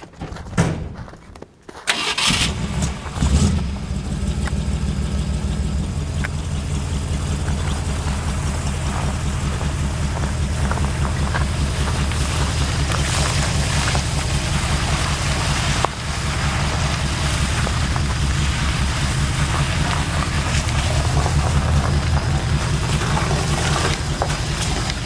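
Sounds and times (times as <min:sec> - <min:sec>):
pickup truck engine rumbling: 0:01.9 - 0:25.0.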